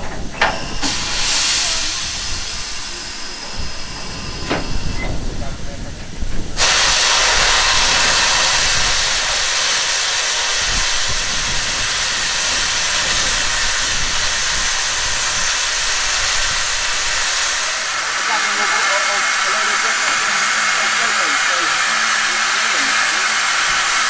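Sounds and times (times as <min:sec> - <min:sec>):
steam locomotive hissing: 0:00.0 - 0:24.0.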